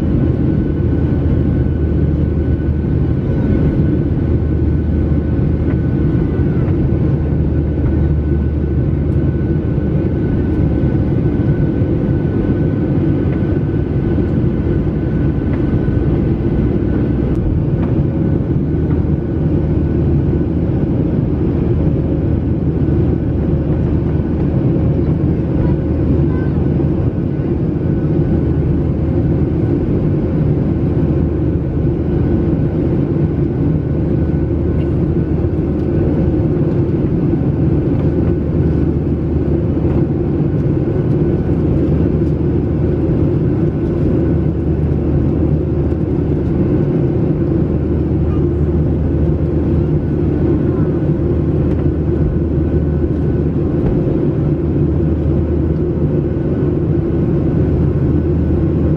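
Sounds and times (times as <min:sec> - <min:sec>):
jet engines droning: 0:00.0 - 0:58.9.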